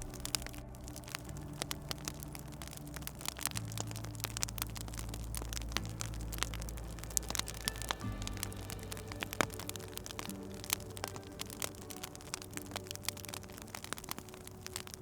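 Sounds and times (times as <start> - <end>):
low steady drone: 0.0 - 15.0
wood fire crackling: 0.0 - 15.0.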